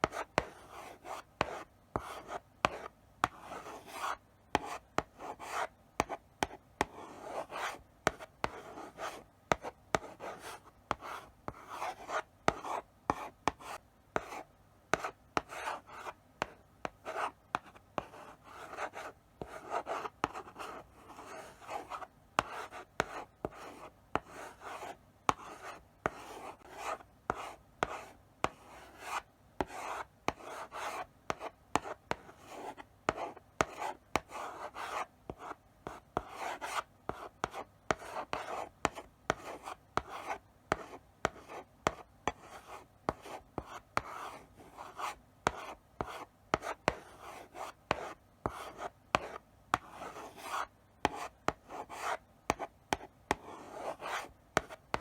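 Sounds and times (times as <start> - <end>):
chalk scratching on blackboard: 0.0 - 16.5, 17.1 - 55.0
chalk tapping on board: 0.0 - 55.0.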